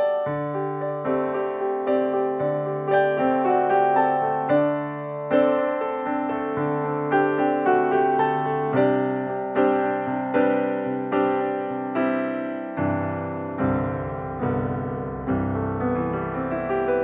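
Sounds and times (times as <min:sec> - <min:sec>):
slow gentle piano tune: 0:00.0 - 0:17.0.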